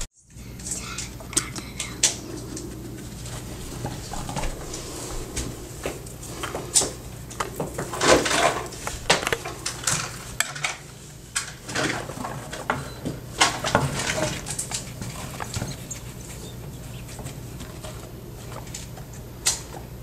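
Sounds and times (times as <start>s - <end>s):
guinea pig munching hay: 0.0s - 20.0s
guinea pig rustling through hay: 1.9s - 11.4s, 13.3s - 19.8s.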